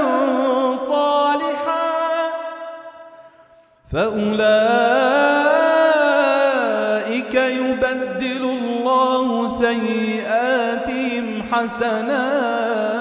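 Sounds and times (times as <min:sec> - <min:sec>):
man chanting melodically: 0:00.0 - 0:02.8, 0:03.9 - 0:13.0.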